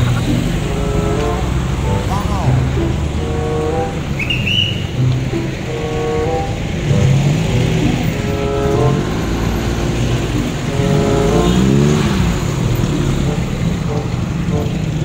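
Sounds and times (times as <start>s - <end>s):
pitched tones bending: 0.0s - 15.0s
traffic rumble from inside car: 0.0s - 15.0s.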